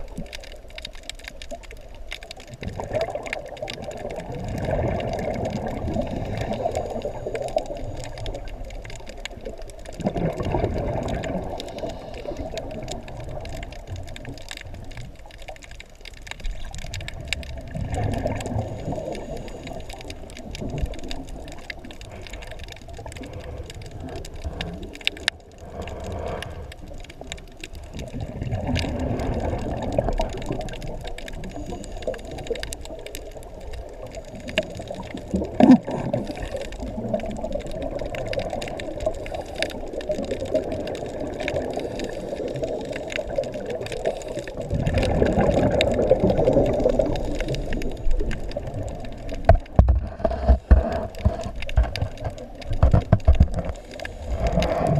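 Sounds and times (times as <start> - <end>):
faint clicks and crackles: 0.0 - 54.9
muffled underwater water noise: 0.0 - 54.9.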